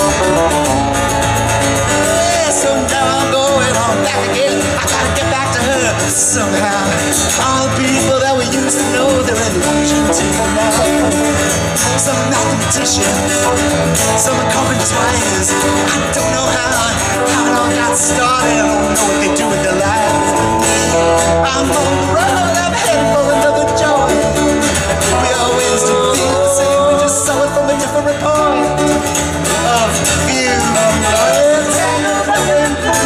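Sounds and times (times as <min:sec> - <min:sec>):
live band music: 0:00.0 - 0:33.0.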